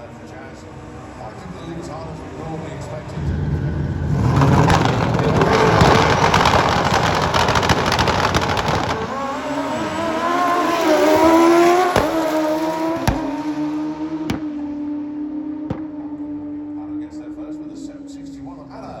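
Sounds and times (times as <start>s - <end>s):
motorcycle engines at full throttle: 0.0s - 19.0s.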